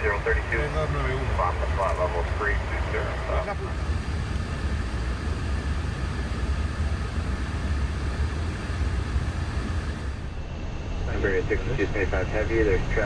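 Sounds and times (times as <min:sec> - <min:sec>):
aircraft cabin low rumble: 0:00.0 - 0:10.5
hiss of airflow and ventilation: 0:00.0 - 0:10.5.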